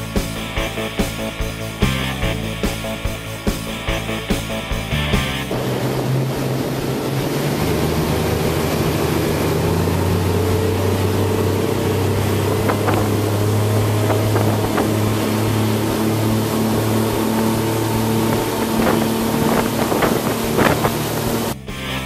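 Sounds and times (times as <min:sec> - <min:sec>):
outboard motors running: 0:00.0 - 0:22.0
water rushing: 0:00.0 - 0:22.0.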